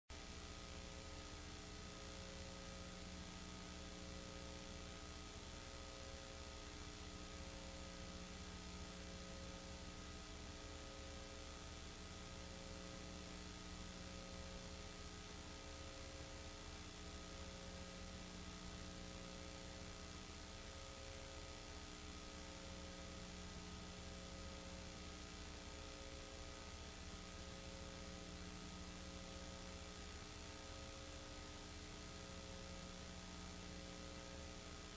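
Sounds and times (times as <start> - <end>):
faint electrical hum and buzz: 0.1 - 34.9.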